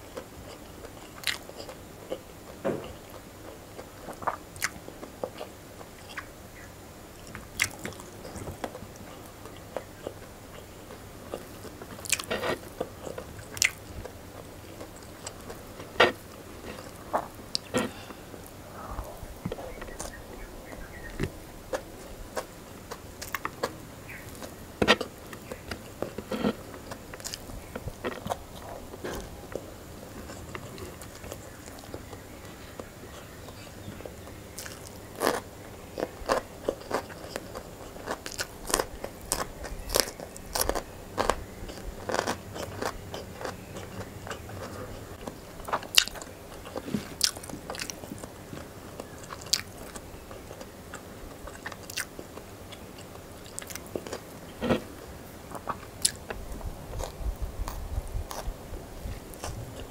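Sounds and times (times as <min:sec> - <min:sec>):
chewing and crunching greens: 0:00.0 - 0:59.9.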